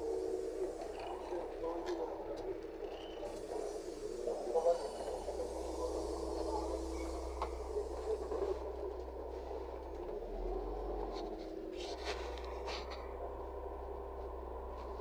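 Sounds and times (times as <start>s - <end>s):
bus cabin drone: 0.0s - 15.0s.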